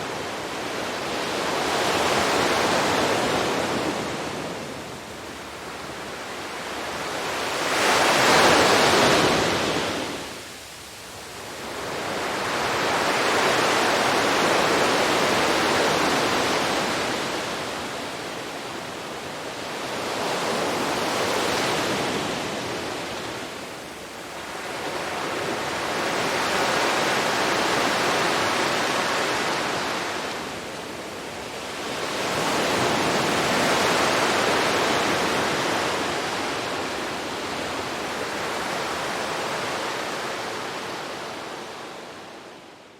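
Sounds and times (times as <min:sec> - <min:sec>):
ocean waves washing onto shore: 0:00.0 - 0:42.9.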